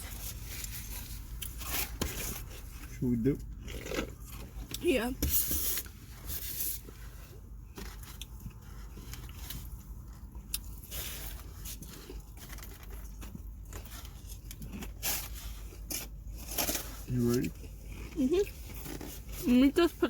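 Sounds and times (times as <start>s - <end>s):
rustling handling noises: 0.0s - 20.0s.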